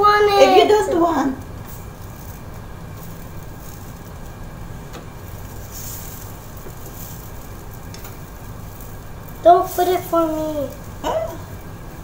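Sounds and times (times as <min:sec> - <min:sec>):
batter sizzling in a frying pan: 0:00.0 - 0:12.0
steady low hum: 0:00.0 - 0:12.0.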